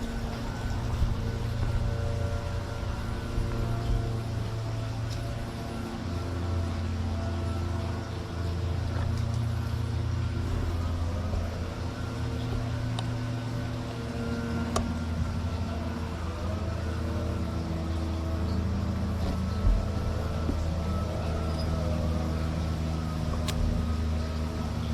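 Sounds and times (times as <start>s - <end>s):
low mechanical hum: 0.0s - 24.9s.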